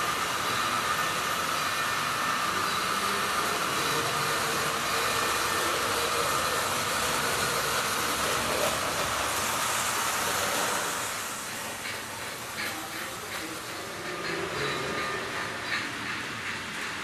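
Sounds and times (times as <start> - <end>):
model train motor whirring: 0.0 - 16.9
wheels rolling on rails: 0.0 - 17.0.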